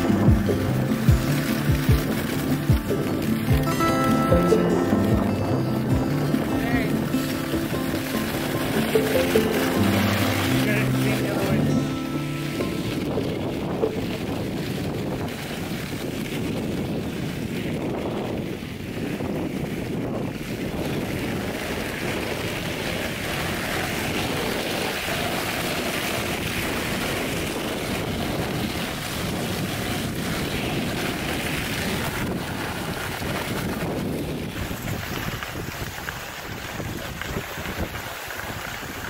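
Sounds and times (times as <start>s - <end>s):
sled runners hissing over snow: 0.0s - 39.0s
wind buffeting microphone: 0.0s - 39.0s.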